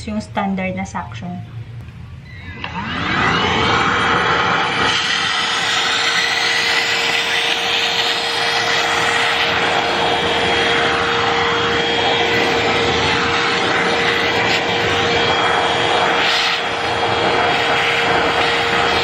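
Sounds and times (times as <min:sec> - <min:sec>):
vacuum cleaner motor whining: 0:02.3 - 0:19.0
vacuum suction rushing air: 0:02.5 - 0:19.0.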